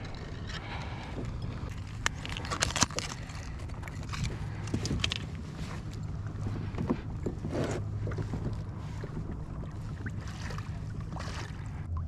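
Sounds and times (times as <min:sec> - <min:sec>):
steady low hum: 0:00.0 - 0:12.0
water noise: 0:00.0 - 0:12.0
wind: 0:00.0 - 0:12.0.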